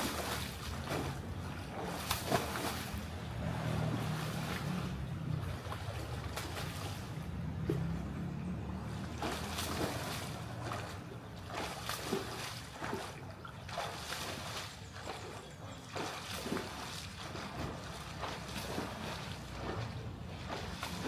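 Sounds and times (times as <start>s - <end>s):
pool water sloshing and splashing: 0.0s - 21.0s.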